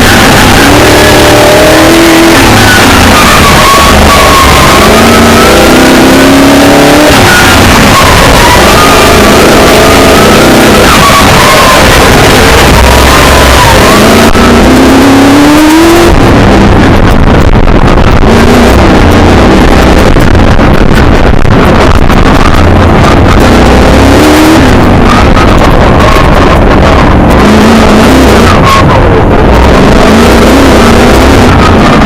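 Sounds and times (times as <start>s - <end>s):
car noise at speed: 0.0s - 32.0s
racing car engine revving: 0.0s - 32.0s.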